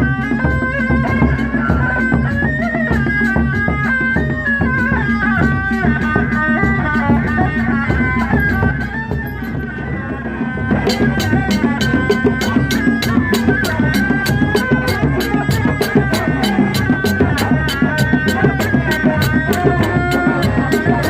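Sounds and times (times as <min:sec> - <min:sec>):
continuous drumming: 0:00.0 - 0:21.0.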